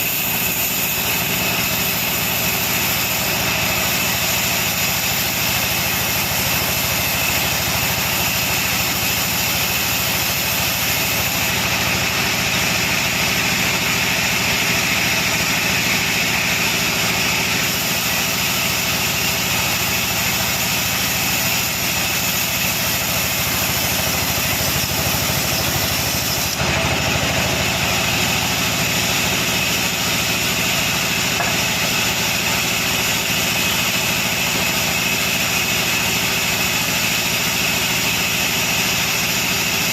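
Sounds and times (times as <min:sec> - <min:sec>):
dense machine noise: 0:00.0 - 0:39.9
sawmill saw whining: 0:00.0 - 0:39.9.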